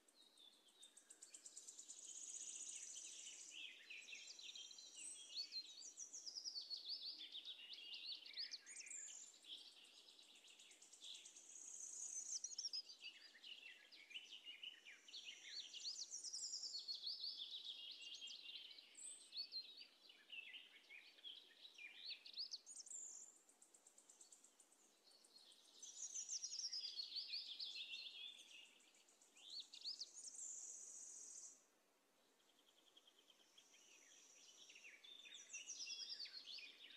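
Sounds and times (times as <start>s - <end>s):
faint bird song: 0.0s - 36.9s.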